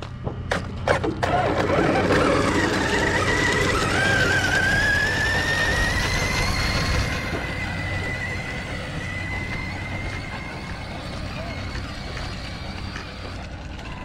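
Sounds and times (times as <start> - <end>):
rc car electric motor whine: 0.8 - 14.0.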